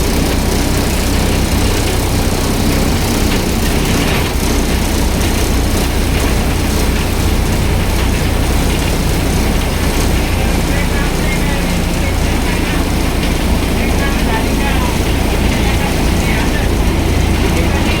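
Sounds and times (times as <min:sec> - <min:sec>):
bus engine rumble: 0:00.0 - 0:18.0
road and body noise: 0:00.0 - 0:18.0.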